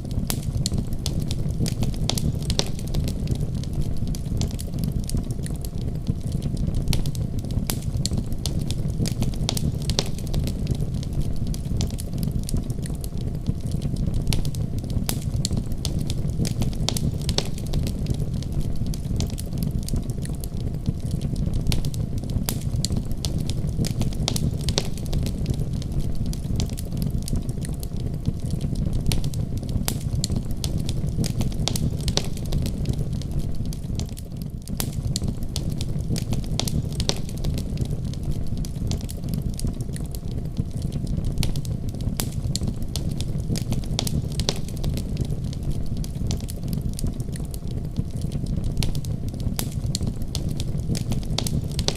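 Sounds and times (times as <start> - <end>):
firewood crackling and popping: 0.0 - 51.9
wood stove low rumble: 0.0 - 51.9.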